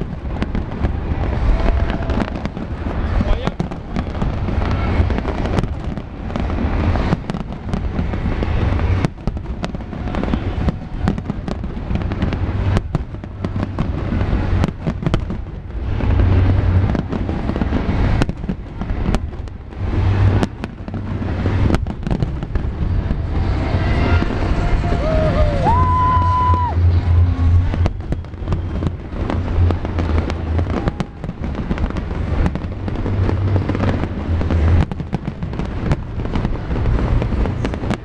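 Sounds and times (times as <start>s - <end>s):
deep fireworks rumble: 0.0s - 38.0s
fireworks bangs and cracks: 0.0s - 38.0s.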